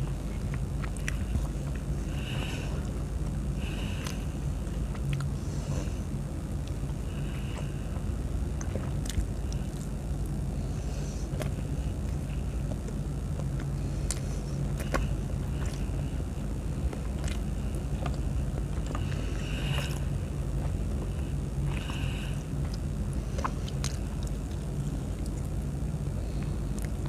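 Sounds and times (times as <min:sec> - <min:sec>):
chewing and biting: 0:00.0 - 0:25.7
steady low hum: 0:00.0 - 0:27.0.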